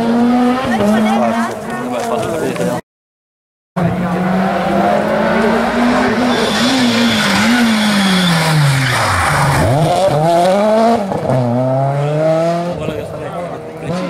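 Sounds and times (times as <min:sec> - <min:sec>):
rally car engine revving: 0:00.0 - 0:01.7, 0:03.8 - 0:14.0.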